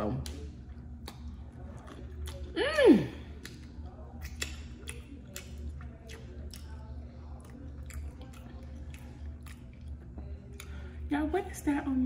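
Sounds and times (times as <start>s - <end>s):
chewing with wet mouth clicks: 0.0s - 11.1s
low steady hum: 0.0s - 12.0s.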